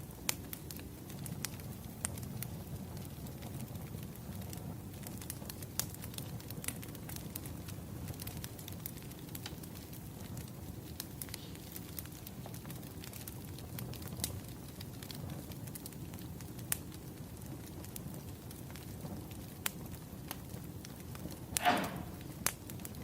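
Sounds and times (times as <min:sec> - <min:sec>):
burning logs rumbling: 0:00.0 - 0:23.0
fire popping and snapping: 0:00.0 - 0:23.0.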